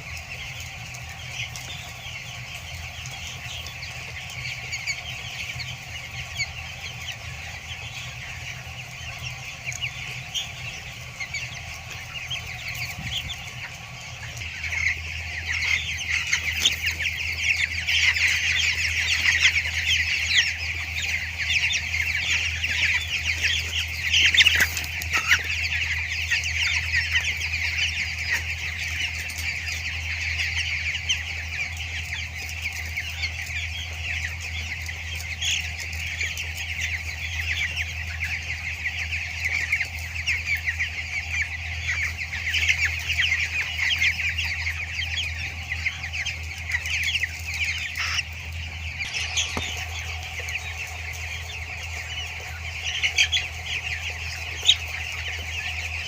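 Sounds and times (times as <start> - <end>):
chicks cheeping: 0.0 - 56.0
steady low hum: 0.0 - 56.0.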